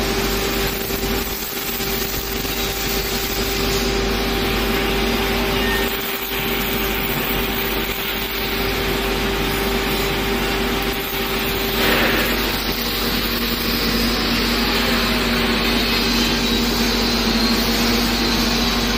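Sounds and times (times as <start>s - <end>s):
welding arc hiss and hum: 0.0s - 18.9s.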